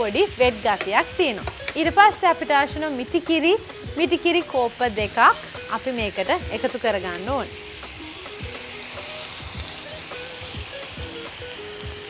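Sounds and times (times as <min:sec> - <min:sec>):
soft background music: 0:00.0 - 0:12.0
stew sizzling in a frying pan: 0:00.0 - 0:12.0.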